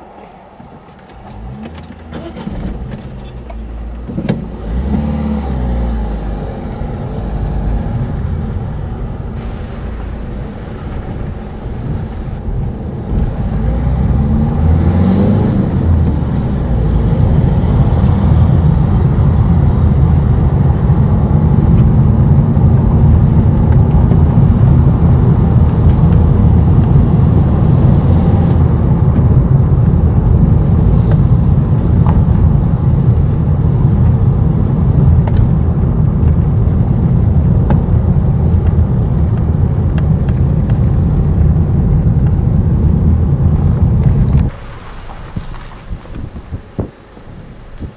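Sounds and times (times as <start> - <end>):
car engine from inside cabin: 0.0 - 47.9
tyre noise: 6.4 - 47.9.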